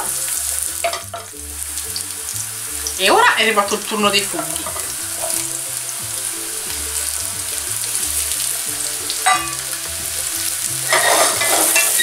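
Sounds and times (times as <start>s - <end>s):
mushrooms sizzling in a frying pan: 0.0s - 12.0s.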